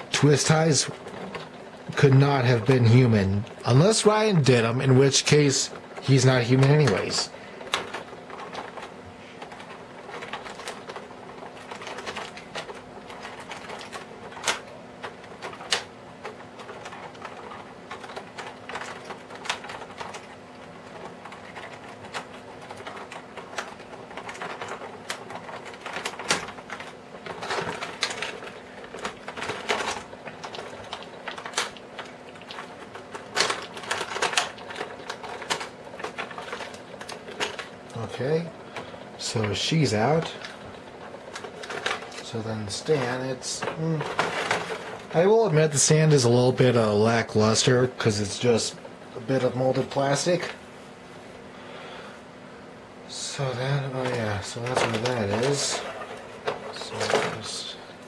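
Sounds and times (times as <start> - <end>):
faint steady hum: 0.0 - 58.0
plastic packaging crinkling: 0.1 - 47.7, 53.7 - 58.0.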